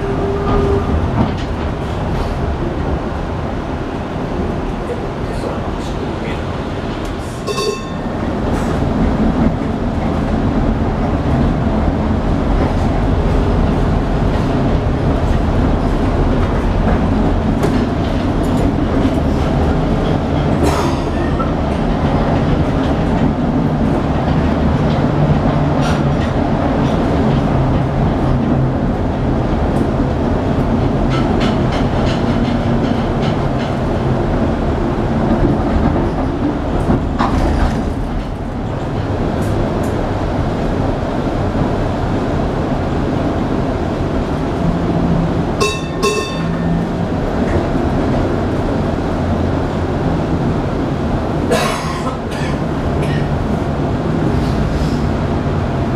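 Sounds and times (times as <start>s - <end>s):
streetcar motors and wheels rumbling: 0.0s - 55.9s.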